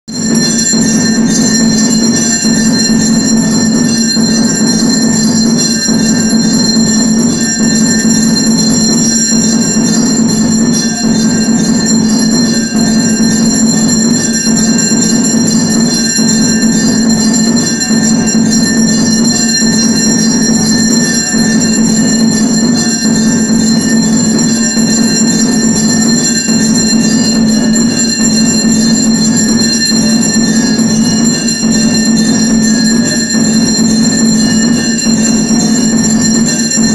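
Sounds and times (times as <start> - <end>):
steady low drone: 0.1 - 36.9
temple bells ringing rapidly: 0.1 - 36.9.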